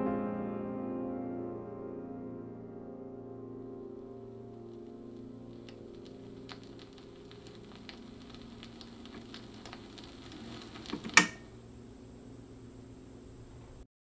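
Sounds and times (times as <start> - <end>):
faint music: 0.0 - 13.8
low hum: 1.6 - 13.8
vinyl record crackling: 1.6 - 13.8.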